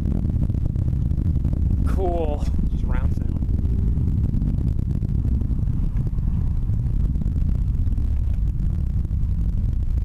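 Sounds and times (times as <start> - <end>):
distant rocket engine roar: 0.0 - 10.0.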